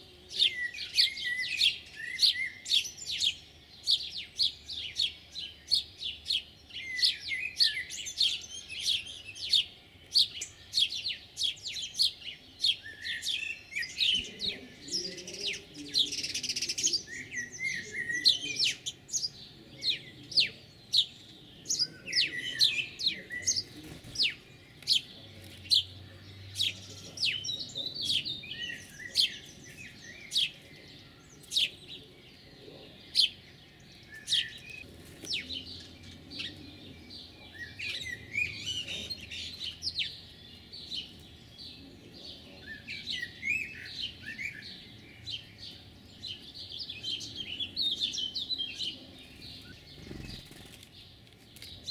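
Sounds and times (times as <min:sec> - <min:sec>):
small songbirds chirping: 0:00.0 - 0:51.9.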